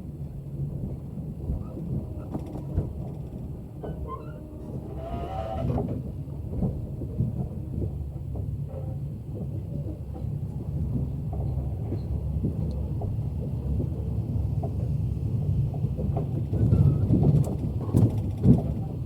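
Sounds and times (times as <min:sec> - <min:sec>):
train rumbling on rails: 0:00.0 - 0:19.0
train wheels knocking and clattering: 0:00.6 - 0:04.1, 0:05.6 - 0:19.0.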